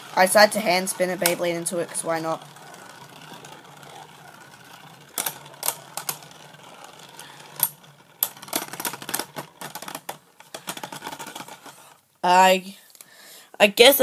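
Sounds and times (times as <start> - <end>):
spinning tops clacking together: 0.0 - 12.0
spinning tops whirring: 0.0 - 12.0.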